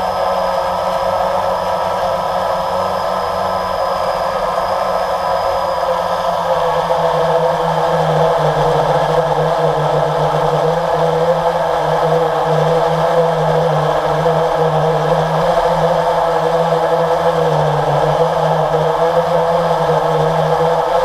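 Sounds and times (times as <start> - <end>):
aircraft motor and propellers droning: 0.0 - 21.0.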